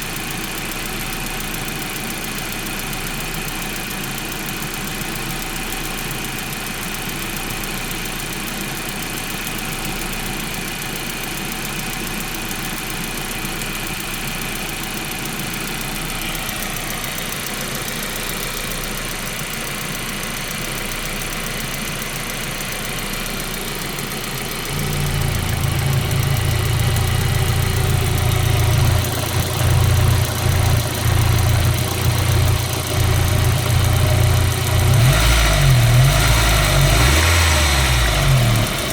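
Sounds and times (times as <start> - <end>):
car engine idling with ticking: 0.0 - 38.9
uneven low engine rumble: 0.0 - 38.9.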